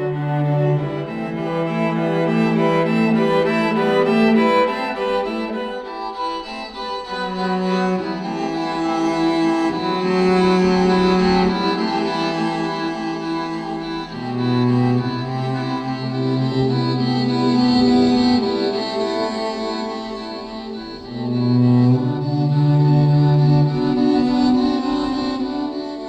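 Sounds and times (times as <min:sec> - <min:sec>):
bowed string music: 0:00.0 - 0:26.0.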